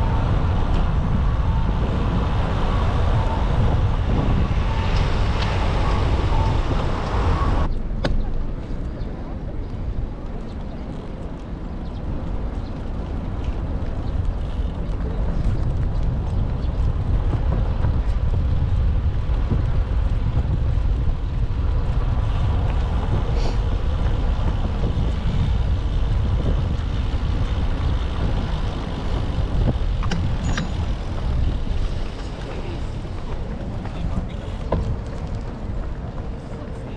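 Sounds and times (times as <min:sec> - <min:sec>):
street traffic noise: 0:00.0 - 0:36.9
wind rumble on microphone: 0:00.0 - 0:36.9.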